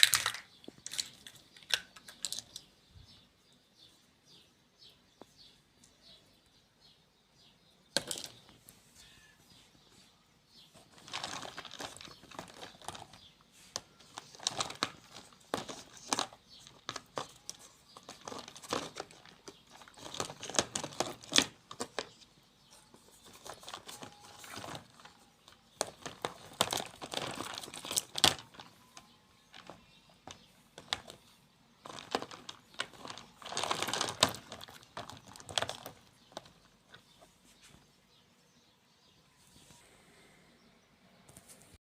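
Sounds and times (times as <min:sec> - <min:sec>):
crinkling and rustling: 0:00.0 - 0:03.3, 0:07.9 - 0:38.7.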